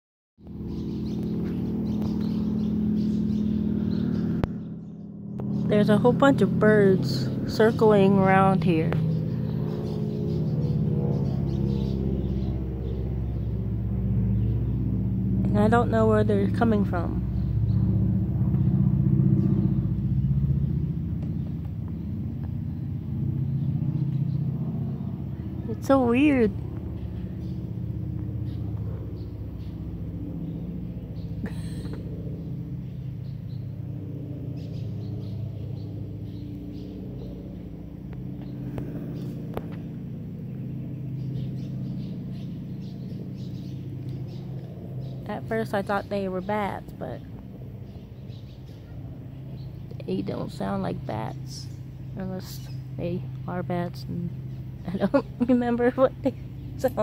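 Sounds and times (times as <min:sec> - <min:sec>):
birds calling: 0:00.4 - 0:57.0
low engine rumble: 0:00.4 - 0:57.0
steady low hum: 0:00.4 - 0:57.0.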